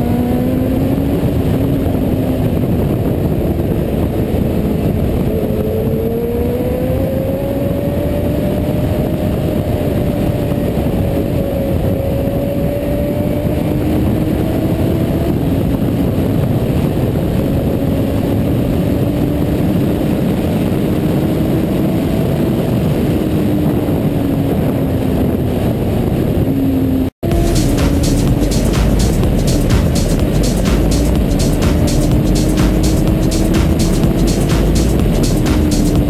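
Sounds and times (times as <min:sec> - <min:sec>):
motorcycle engine running hard: 0:00.0 - 0:36.0
wind rushing on microphone: 0:00.0 - 0:36.0.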